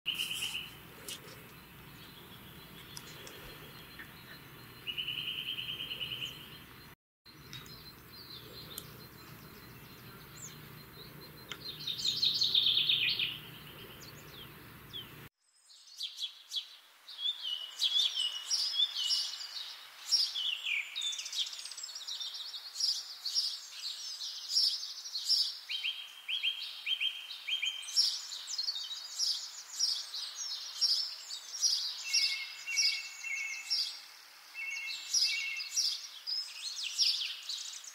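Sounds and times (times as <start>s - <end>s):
songbirds chirping: 0.1s - 37.9s.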